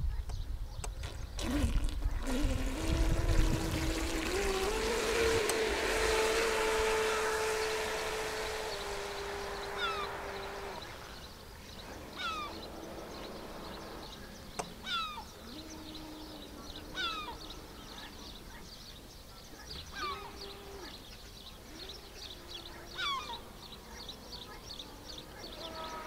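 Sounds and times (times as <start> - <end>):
distant model boat motor: 0.8 - 26.0
bird calling: 4.2 - 26.0.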